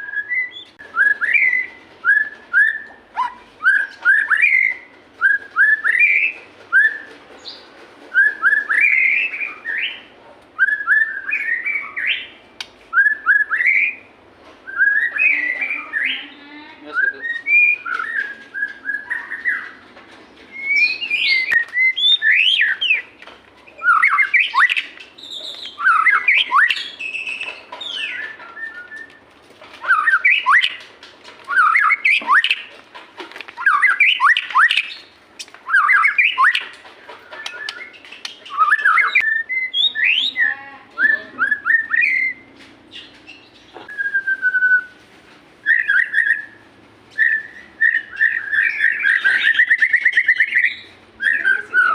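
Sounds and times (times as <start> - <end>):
bird singing whistled phrases: 0.0 - 10.0, 10.6 - 12.3, 12.9 - 19.8, 20.5 - 23.1, 23.8 - 29.2, 29.8 - 30.8, 31.5 - 32.6, 33.6 - 35.0, 35.6 - 36.7, 37.3 - 42.5, 43.9 - 45.0, 45.6 - 46.6, 47.2 - 51.9.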